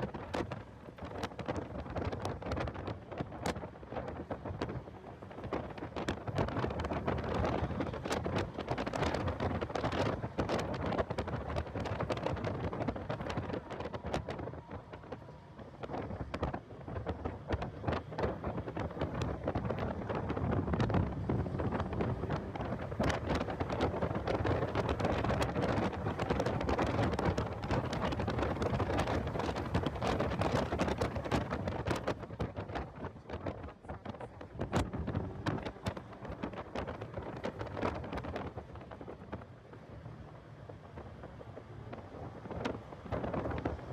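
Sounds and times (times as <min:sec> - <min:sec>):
car driving: 0:00.0 - 0:43.9
wind buffeting microphone: 0:00.0 - 0:43.9.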